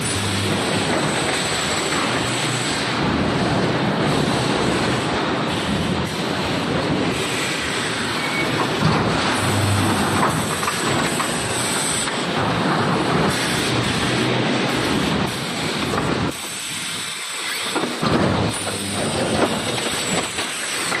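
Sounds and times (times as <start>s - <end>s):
industrial machinery clatter and hiss: 0.0s - 21.0s.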